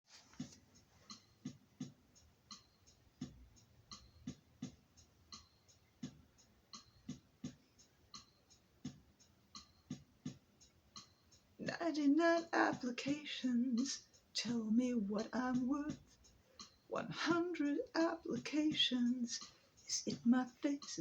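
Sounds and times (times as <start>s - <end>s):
soft percussion beat: 0.1s - 21.0s.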